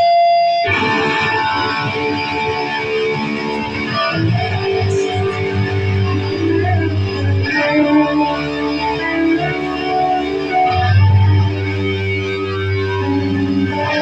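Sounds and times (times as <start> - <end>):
bass guitar: 0.0 - 14.0
strummed guitar: 0.0 - 14.0.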